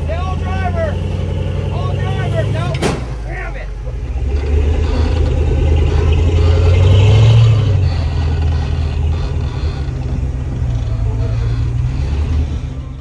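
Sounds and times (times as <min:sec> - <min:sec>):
buggy engine revving under load: 0:00.0 - 0:13.0.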